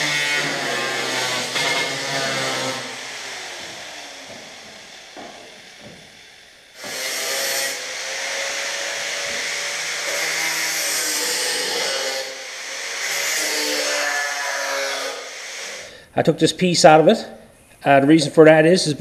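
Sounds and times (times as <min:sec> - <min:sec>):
grinder cutting sheet metal: 0:00.0 - 0:16.0.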